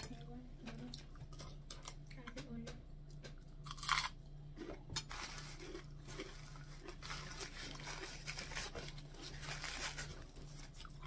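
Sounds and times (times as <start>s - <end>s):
chewing and crunching: 0.0s - 11.0s.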